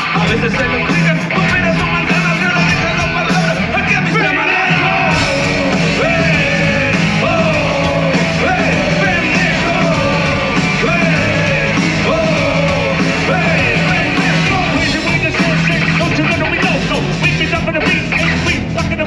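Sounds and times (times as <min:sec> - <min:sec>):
crowd singing and yelling: 0:00.0 - 0:19.0
live rock band playing: 0:00.0 - 0:19.0.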